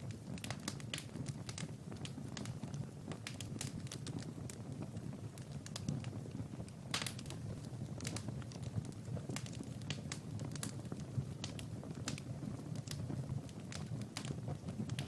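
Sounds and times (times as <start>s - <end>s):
wood fire pops and snaps: 0.0s - 15.0s
flames rushing: 0.1s - 15.0s.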